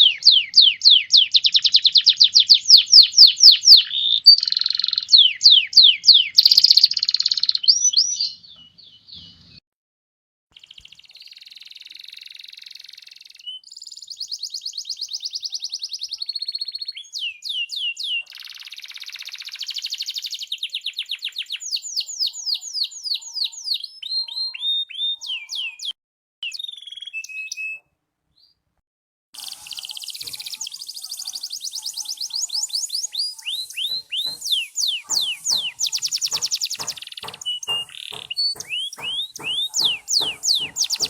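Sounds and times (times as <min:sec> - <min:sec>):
canary singing trills: 0:00.0 - 0:09.6, 0:10.6 - 0:28.5, 0:29.4 - 0:41.0.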